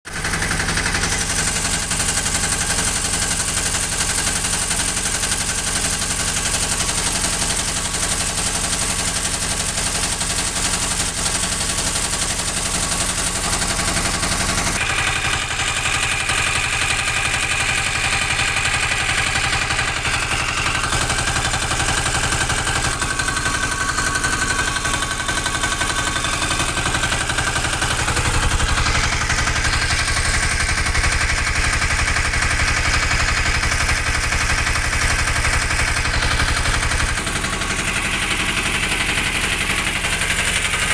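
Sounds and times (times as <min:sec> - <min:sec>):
diesel engine knocking: 0:00.1 - 0:40.9.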